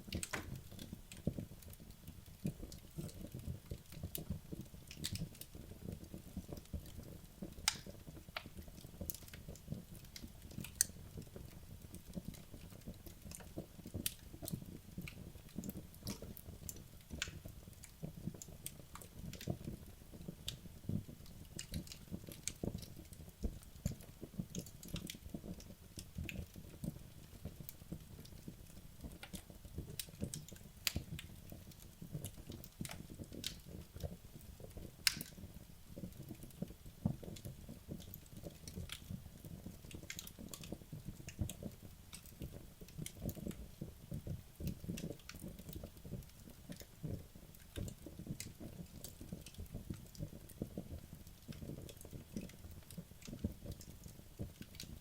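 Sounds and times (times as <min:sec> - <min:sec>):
burning wood crackling and popping: 0:00.0 - 0:55.0
fire flames fluttering: 0:00.0 - 0:55.0.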